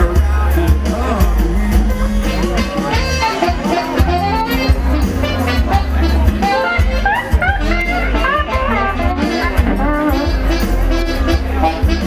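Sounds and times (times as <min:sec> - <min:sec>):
drum hits: 0:00.0 - 0:12.0
heavy bass line: 0:00.0 - 0:12.0
live band playing: 0:00.0 - 0:12.0
melodic lead line: 0:00.0 - 0:12.0.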